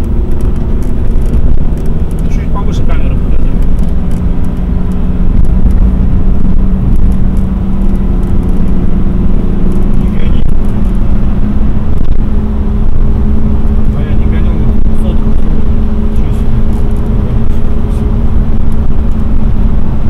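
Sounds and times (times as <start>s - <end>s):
car cabin engine and tyre rumble: 0.0s - 20.0s
steady hum: 0.0s - 20.0s.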